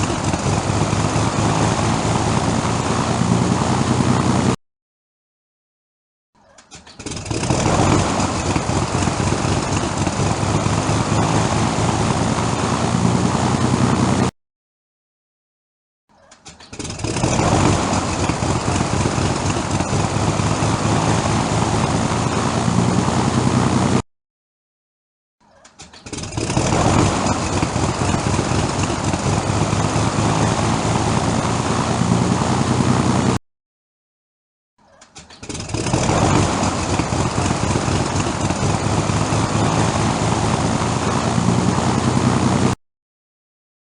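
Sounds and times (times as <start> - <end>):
propeller aircraft engine starting: 0.0 - 4.6, 6.6 - 14.3, 16.2 - 24.0, 25.6 - 33.4, 35.0 - 42.8.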